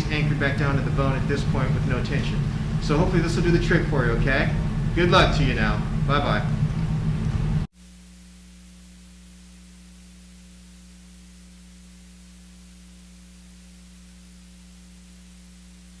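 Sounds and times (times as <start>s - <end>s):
constant hiss: 0.0s - 16.0s
electrical mains hum: 0.0s - 16.0s.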